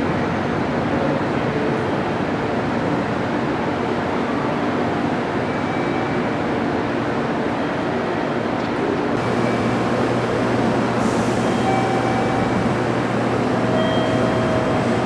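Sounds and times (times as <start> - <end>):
electric trains running: 0.0 - 15.0
station platform rumble: 0.0 - 15.0.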